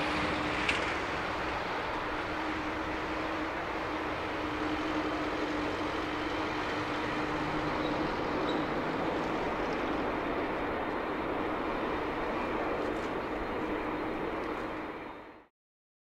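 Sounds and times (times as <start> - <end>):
distant jet engines rushing: 0.0 - 15.5.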